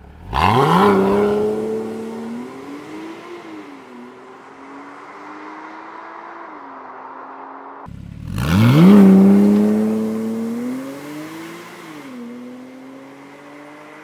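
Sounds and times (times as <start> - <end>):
car engine accelerating away: 0.0 - 14.0
distant car engine: 0.0 - 14.0.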